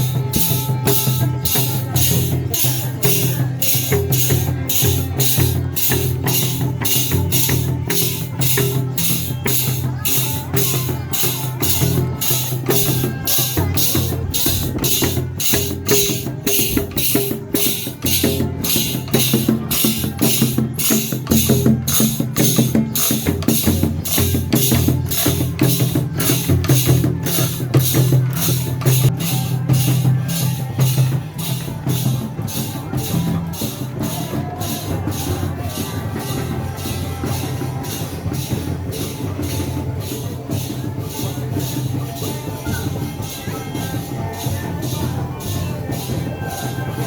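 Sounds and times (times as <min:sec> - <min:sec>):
sharp high percussive strokes: 0:00.0 - 0:47.0.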